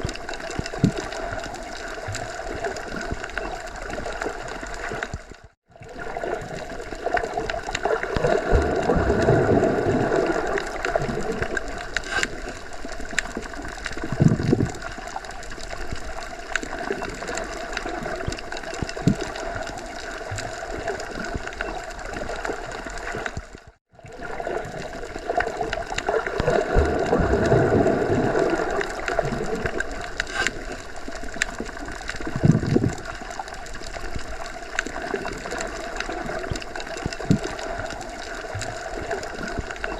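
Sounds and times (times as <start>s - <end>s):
deep underwater noise: 0.0s - 39.9s.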